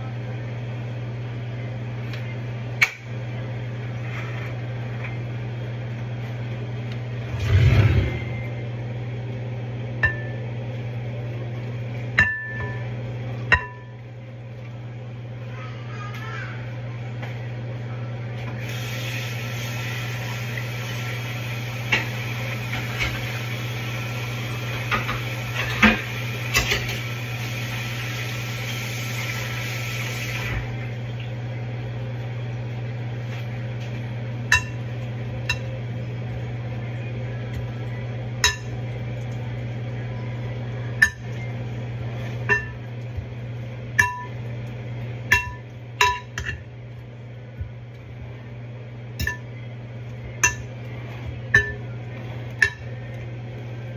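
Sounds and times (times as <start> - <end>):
constant low hum: 0.0 - 53.9.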